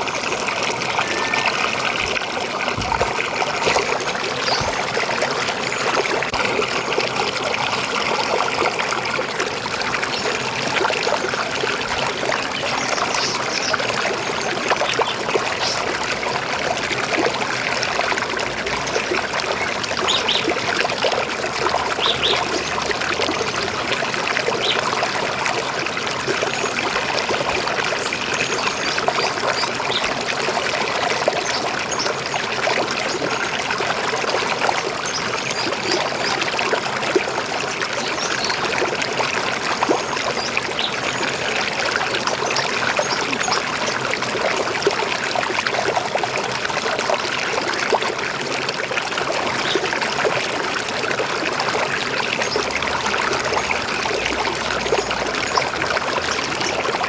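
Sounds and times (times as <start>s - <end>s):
river water over stones: 0.0s - 57.0s.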